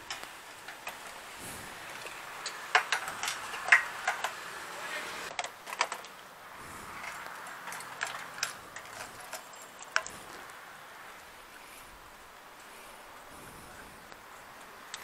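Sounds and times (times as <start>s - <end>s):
muffled motorcycle hiss: 0.0s - 5.4s, 6.2s - 7.5s, 8.5s - 15.0s.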